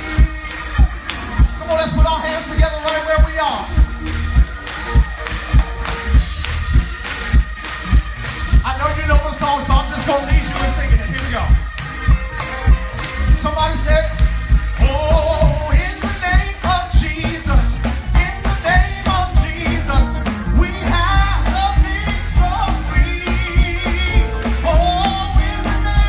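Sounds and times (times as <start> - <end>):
upbeat gospel song over loudspeakers: 0.0 - 26.0.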